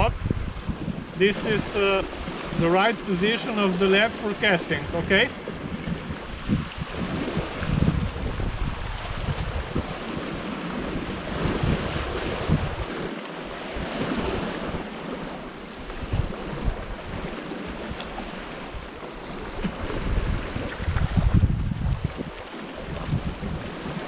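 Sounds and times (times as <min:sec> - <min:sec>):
wind on microphone: 0:00.0 - 0:02.8, 0:04.7 - 0:24.0
small waves on rocky shore: 0:00.0 - 0:24.0.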